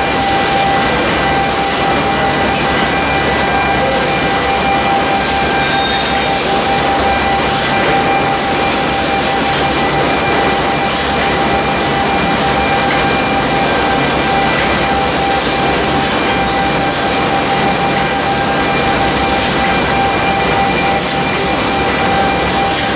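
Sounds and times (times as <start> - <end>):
constant mechanical whine: 0.0 - 22.9.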